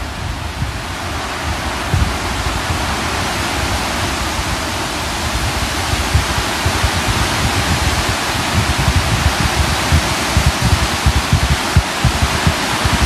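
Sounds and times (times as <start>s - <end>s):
rushing wind: 0.0s - 13.0s
wind buffeting microphone: 0.0s - 13.0s.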